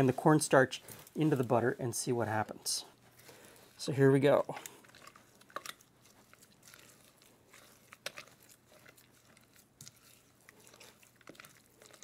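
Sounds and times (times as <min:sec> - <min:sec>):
spatula squishing batter: 0:00.0 - 0:12.0.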